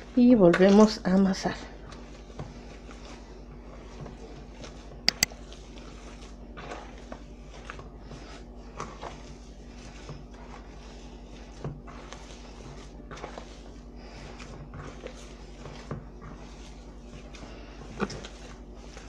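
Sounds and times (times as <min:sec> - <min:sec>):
hands kneading dough: 0:00.0 - 0:19.0.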